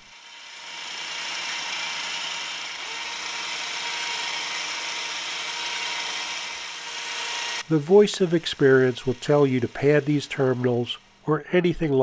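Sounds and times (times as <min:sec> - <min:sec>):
electric winch running: 0:00.0 - 0:11.3.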